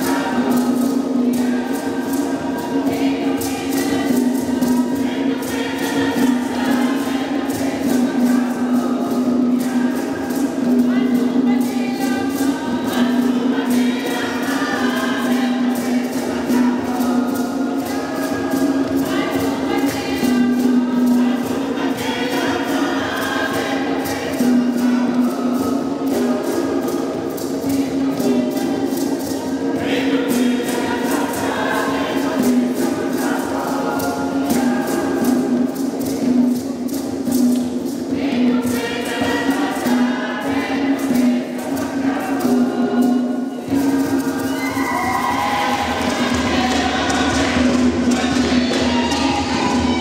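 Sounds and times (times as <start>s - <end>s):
hand drums: 0.0s - 50.0s
mixed choir singing: 0.0s - 50.0s.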